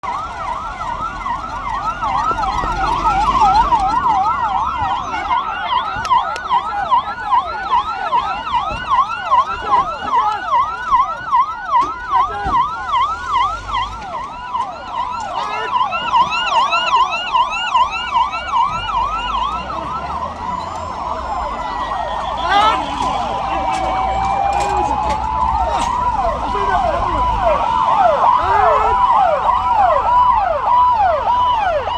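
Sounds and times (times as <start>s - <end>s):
emergency vehicle sirens yelping: 0.0s - 31.9s.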